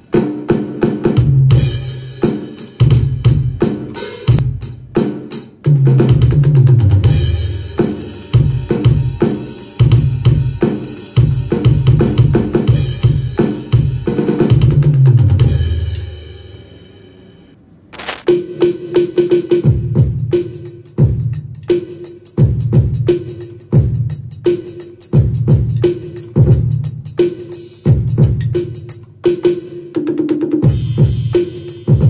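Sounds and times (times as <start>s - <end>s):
drum kit beat: 0.0s - 16.1s, 18.3s - 32.0s.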